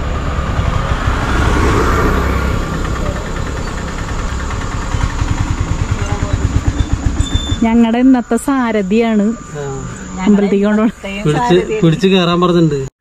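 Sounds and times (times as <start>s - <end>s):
engine idling with low chugging: 0.0s - 12.9s
motorcycle passing: 0.0s - 12.9s.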